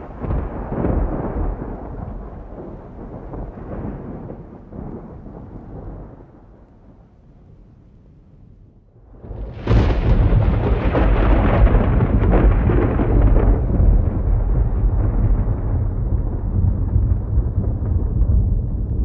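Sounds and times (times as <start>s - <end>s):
thunder peal and rumble: 0.0s - 19.0s.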